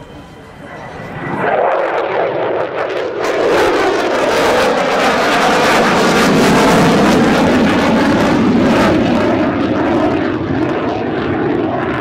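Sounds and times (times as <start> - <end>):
fighter jet flying away: 0.0 - 12.0.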